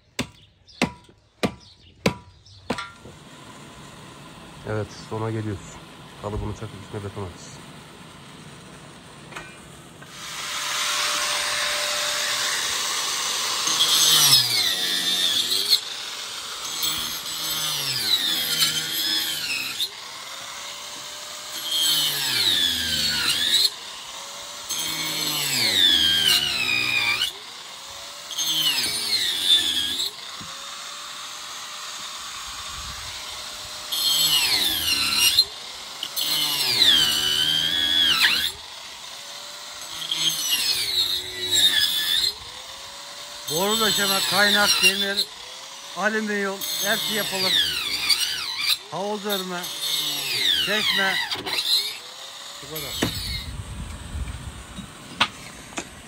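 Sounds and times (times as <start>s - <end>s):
power drill running: 2.9s - 56.0s.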